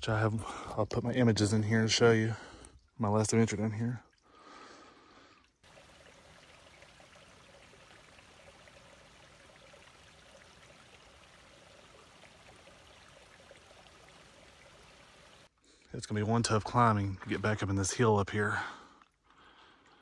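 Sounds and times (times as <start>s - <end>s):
faint trickle of running water: 0.4s - 15.5s, 16.5s - 20.0s.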